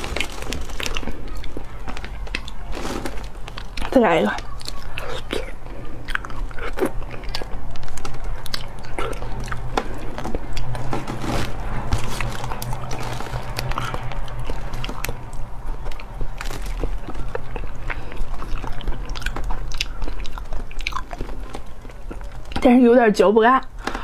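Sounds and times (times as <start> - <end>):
steady low hum: 0.0 - 23.8
chewing and wet mouth sounds: 0.0 - 24.0.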